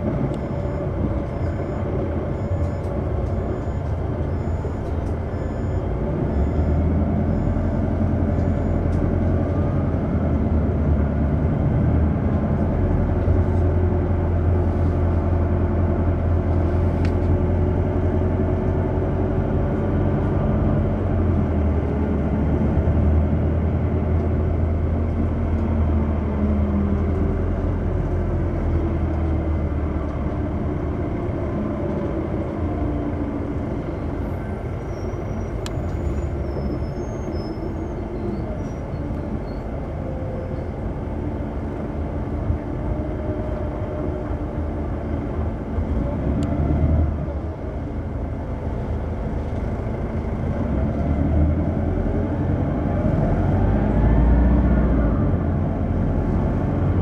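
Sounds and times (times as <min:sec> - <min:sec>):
bus engine hum: 0:00.0 - 0:57.0
road noise: 0:00.0 - 0:57.0.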